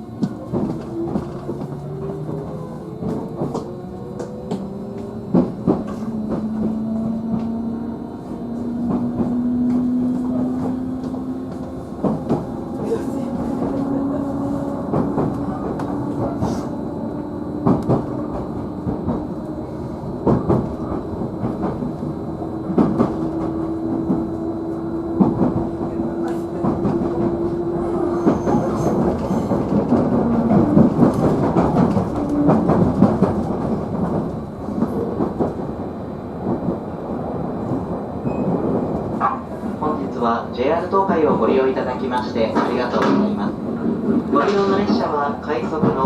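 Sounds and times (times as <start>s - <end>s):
electric train motor whine: 0.0s - 39.8s.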